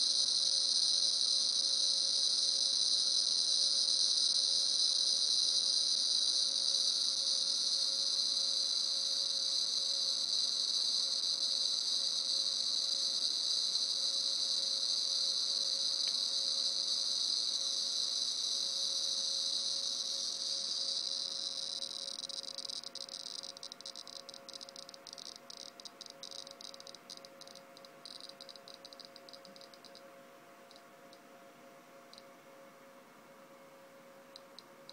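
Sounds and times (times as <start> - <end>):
geiger counter clicking buzz: 0.0 - 30.1, 30.7 - 31.3, 32.1 - 32.3, 34.3 - 34.9.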